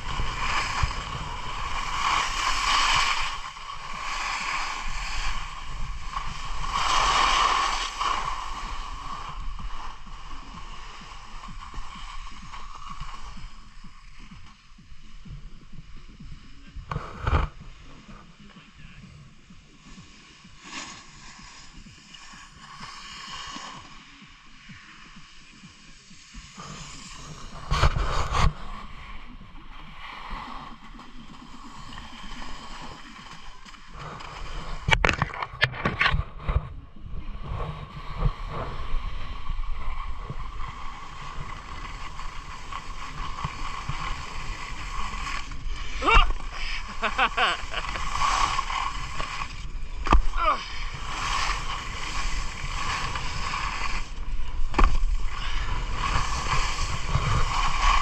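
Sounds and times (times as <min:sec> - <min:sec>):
microphone handling noise: 0:00.0 - 0:20.0, 0:25.7 - 0:30.0, 0:30.8 - 0:58.0
wind rumbling on microphone: 0:00.0 - 0:22.9, 0:23.7 - 0:58.0
skis sliding over snow: 0:00.0 - 0:58.0.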